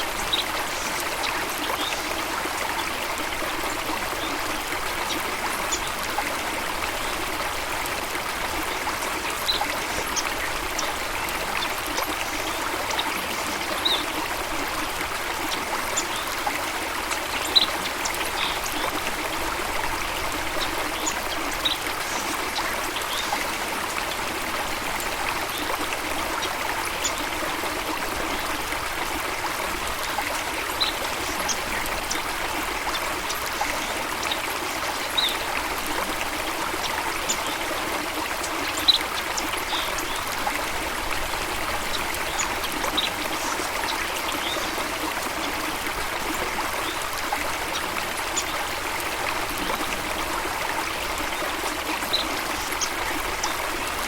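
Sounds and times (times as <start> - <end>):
water rushing and trickling: 0.0 - 54.0.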